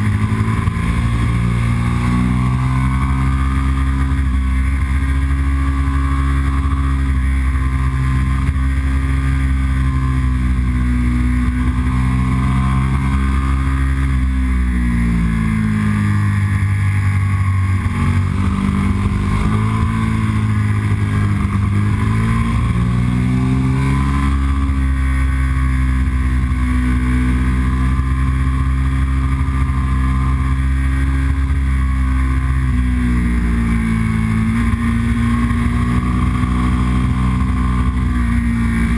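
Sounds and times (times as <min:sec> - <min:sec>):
motorcycle engine pulling: 0:00.0 - 0:38.9.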